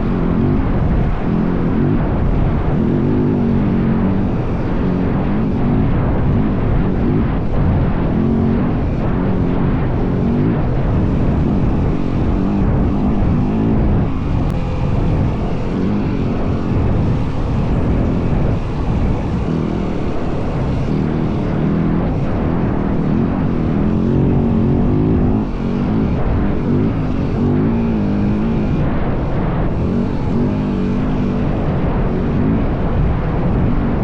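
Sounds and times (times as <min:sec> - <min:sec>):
dirt bike engine revving: 0:00.0 - 0:34.0
wind rumble on microphone: 0:00.0 - 0:34.0.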